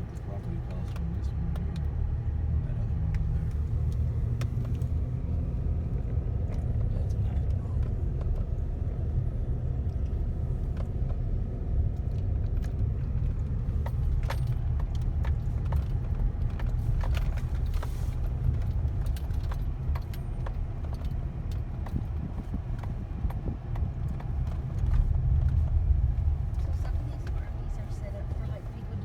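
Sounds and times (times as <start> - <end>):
truck engine low rumble: 0.0 - 29.0.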